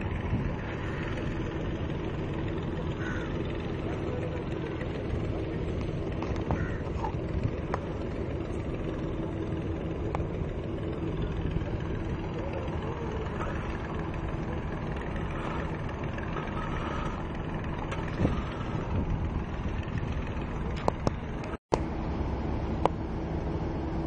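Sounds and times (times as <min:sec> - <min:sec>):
ship's engine rumbling: 0:00.0 - 0:24.0.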